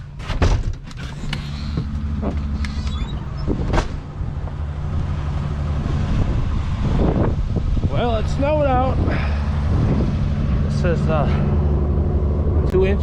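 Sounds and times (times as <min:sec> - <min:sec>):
vehicle engine idling: 0:01.0 - 0:13.0.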